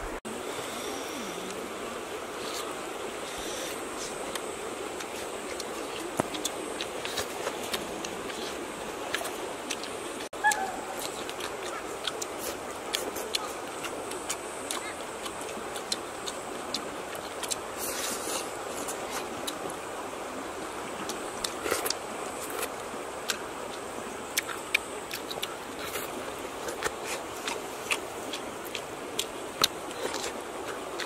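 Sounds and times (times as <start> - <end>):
flowing river water: 0.0 - 31.0
clicks and smacks of eating: 4.2 - 19.8, 21.0 - 31.0.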